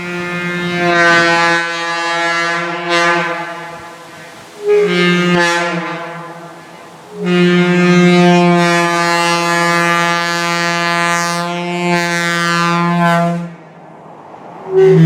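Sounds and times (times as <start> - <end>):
locomotive air horn blasts: 0.0 - 13.8, 14.7 - 15.0.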